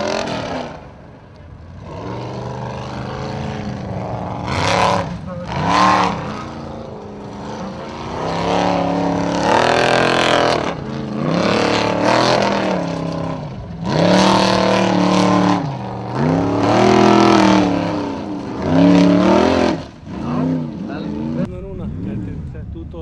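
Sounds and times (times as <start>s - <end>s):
buggy engine revving hard: 0.0s - 1.0s, 1.7s - 22.6s
spinning tyres and flying dirt: 0.0s - 23.0s.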